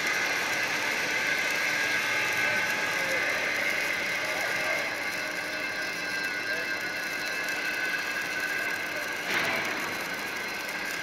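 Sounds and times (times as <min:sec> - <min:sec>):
arc welding hiss and whine: 0:00.0 - 0:11.0.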